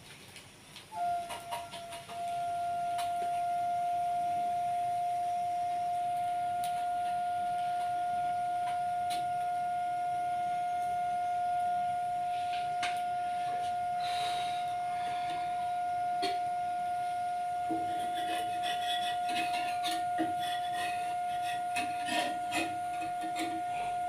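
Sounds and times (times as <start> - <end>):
steady high-pitched tone: 1.0 - 24.0.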